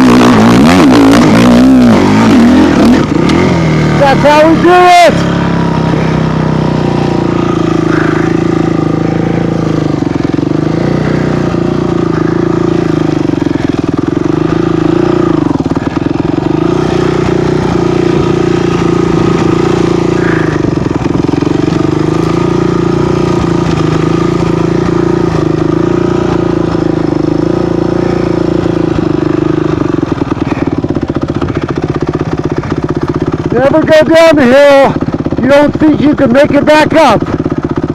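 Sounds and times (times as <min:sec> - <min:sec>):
vehicle engine running under load: 0:00.0 - 0:37.9.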